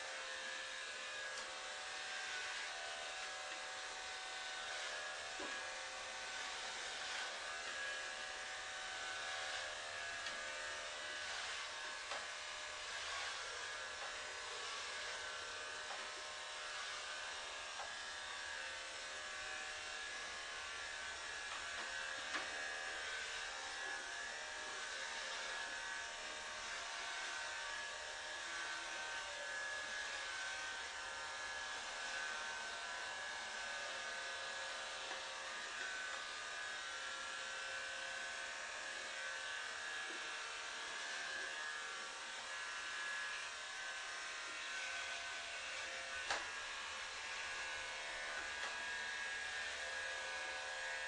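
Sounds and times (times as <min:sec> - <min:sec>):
electric hair clippers buzzing: 0:00.0 - 0:51.0.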